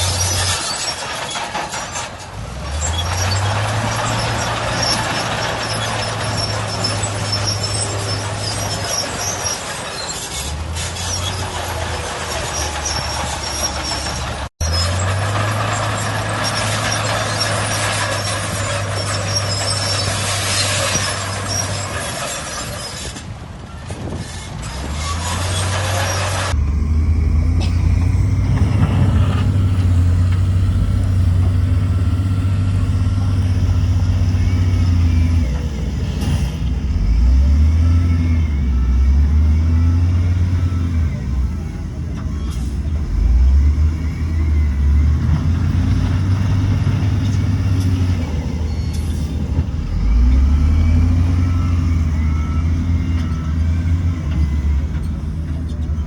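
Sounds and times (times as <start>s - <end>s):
diesel machinery engine: 0.0s - 56.0s.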